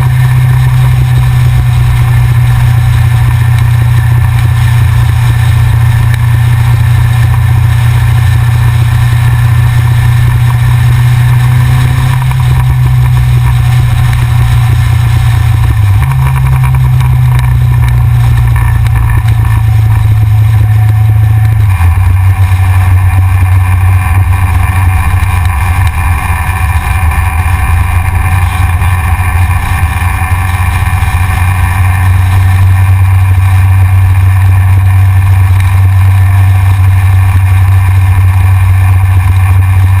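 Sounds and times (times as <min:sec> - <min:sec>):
motorcycle engine running: 0:00.0 - 0:40.0
wind rumble on camera: 0:00.0 - 0:40.0.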